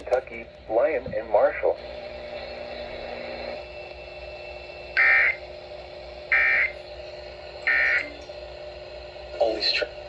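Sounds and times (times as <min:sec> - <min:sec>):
steady radio hiss: 0:00.0 - 0:10.0.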